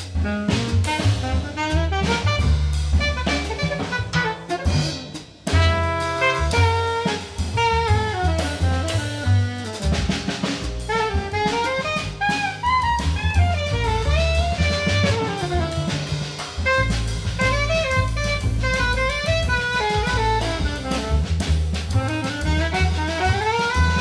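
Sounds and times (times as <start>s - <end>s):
alto saxophone melody: 0.0s - 24.0s
jazz ensemble playing: 0.0s - 24.0s.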